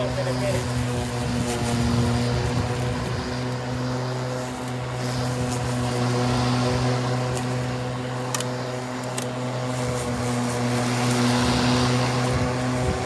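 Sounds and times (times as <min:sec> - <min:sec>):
electric lawnmower running: 0:00.0 - 0:13.0.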